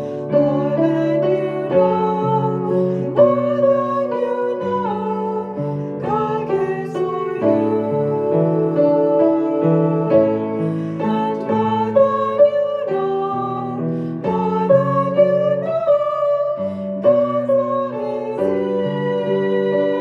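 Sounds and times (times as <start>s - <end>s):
slow piano song: 0.0s - 20.0s
woman singing: 0.0s - 20.0s.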